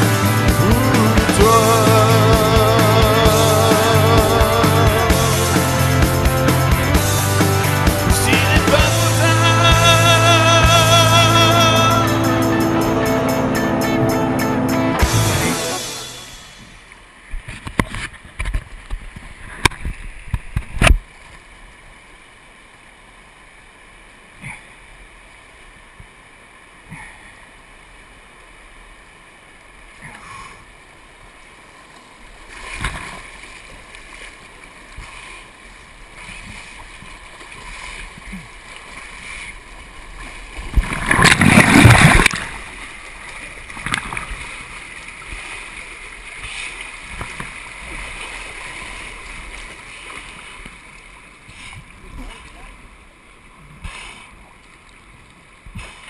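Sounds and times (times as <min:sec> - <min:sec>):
rush of churning water: 0:00.0 - 0:12.5, 0:15.5 - 0:56.0
river water splashing and gurgling: 0:00.0 - 0:56.0.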